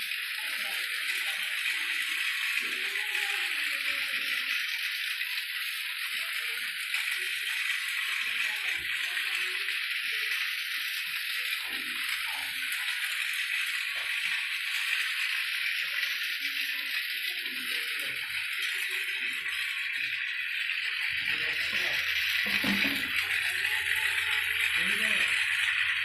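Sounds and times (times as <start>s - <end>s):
toy train motor whirring: 0.0s - 26.0s.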